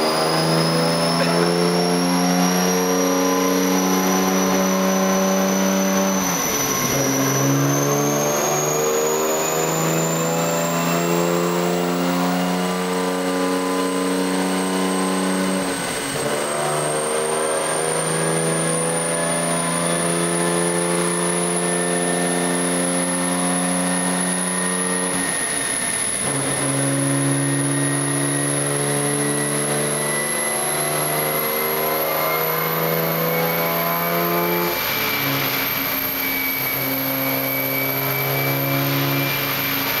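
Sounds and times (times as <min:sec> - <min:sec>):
high whine rising in pitch: 0:00.0 - 0:40.0
race car engine on dyno: 0:00.0 - 0:40.0.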